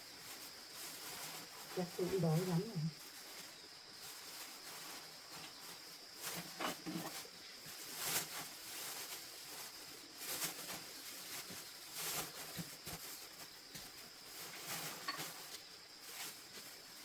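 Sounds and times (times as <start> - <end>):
chickens pecking and rustling: 0.0 - 17.0
steady high hiss: 0.0 - 17.0.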